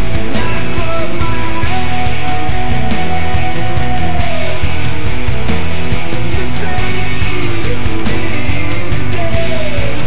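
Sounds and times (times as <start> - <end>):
loud rock music: 0.0 - 10.0.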